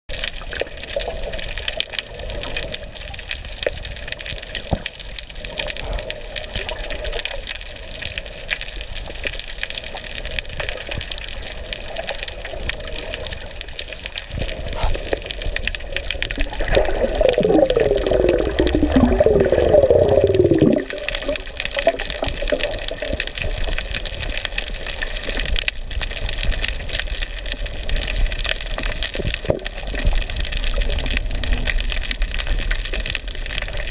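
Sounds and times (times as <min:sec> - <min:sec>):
underwater crackling hiss: 0:00.3 - 0:33.9.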